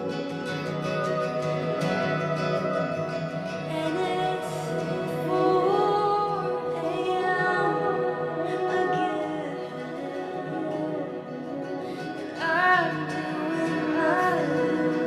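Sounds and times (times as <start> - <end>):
fingerpicked acoustic guitar: 0.0 - 15.0
person singing: 0.0 - 15.0.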